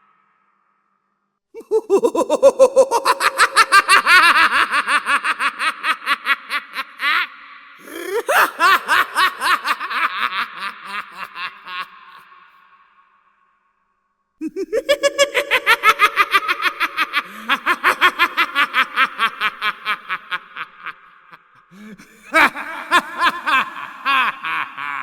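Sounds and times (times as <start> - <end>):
high-pitched evil cackle: 1.6 - 13.0, 14.4 - 25.0.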